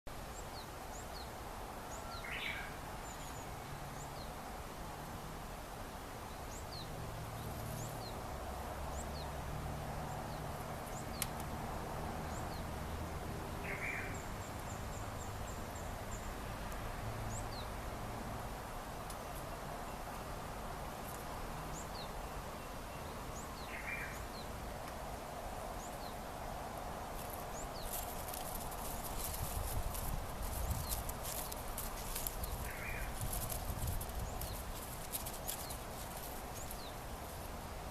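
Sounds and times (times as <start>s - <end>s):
small birds chirping: 0.1s - 4.8s, 6.1s - 37.9s.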